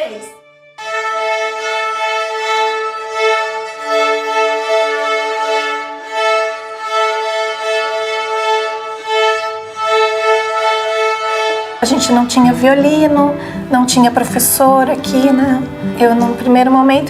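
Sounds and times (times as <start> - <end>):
violin sustained bowed notes: 0.0 - 17.0.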